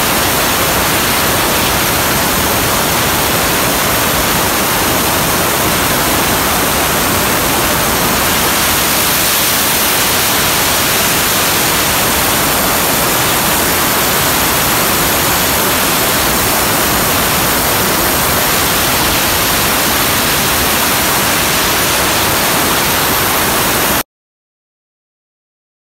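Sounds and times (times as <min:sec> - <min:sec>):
welding arc hissing: 0:00.0 - 0:24.0.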